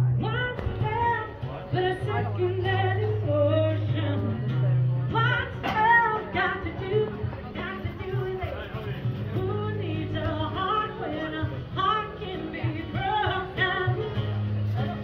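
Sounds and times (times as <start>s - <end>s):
song with sung melody: 0.0s - 15.0s.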